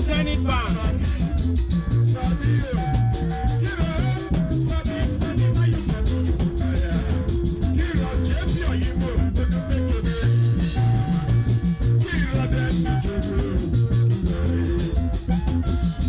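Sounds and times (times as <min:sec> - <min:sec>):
band music: 0:00.0 - 0:16.0
bass guitar line: 0:00.0 - 0:16.0.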